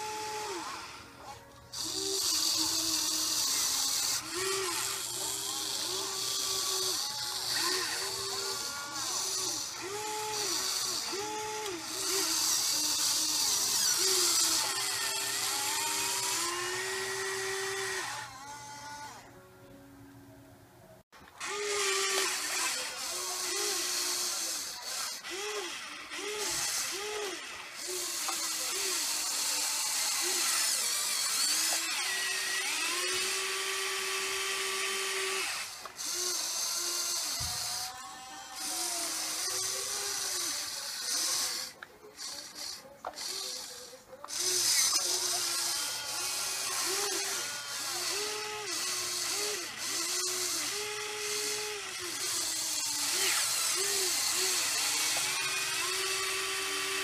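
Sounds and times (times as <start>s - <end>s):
electric motors whining: 0.0s - 19.9s, 21.2s - 57.0s.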